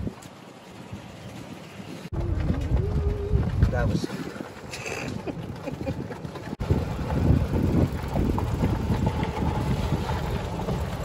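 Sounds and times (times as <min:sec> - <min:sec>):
golf cart running: 0:00.0 - 0:11.0
wind buffeting microphone: 0:00.0 - 0:11.0.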